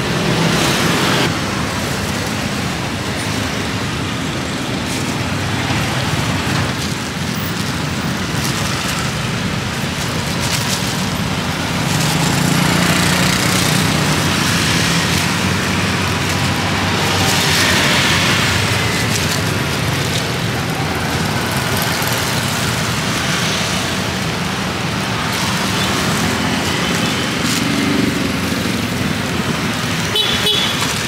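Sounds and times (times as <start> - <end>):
passing traffic: 0.0 - 31.0.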